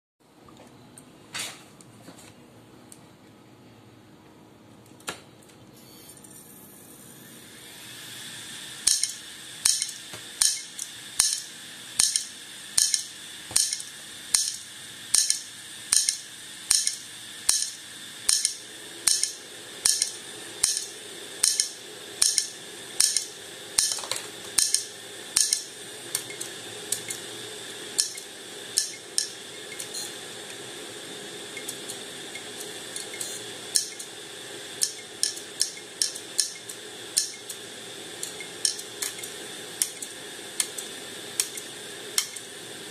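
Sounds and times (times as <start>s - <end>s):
hard drive high whine: 5.4s - 42.9s.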